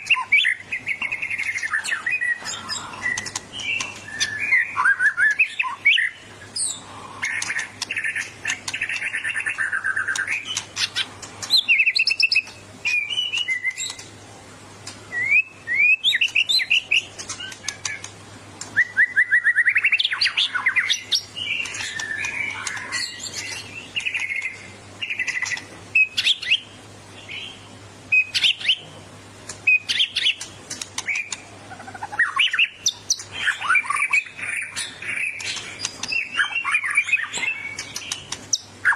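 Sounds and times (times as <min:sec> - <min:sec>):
songbird singing trills and whistles: 0:00.0 - 0:14.1, 0:15.1 - 0:28.9, 0:29.5 - 0:38.9.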